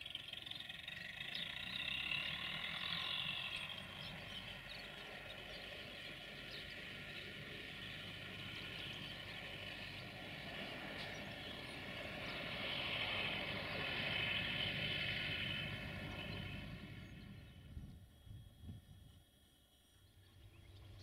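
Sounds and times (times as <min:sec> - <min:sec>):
tractor diesel engine passing: 0:00.0 - 0:18.6.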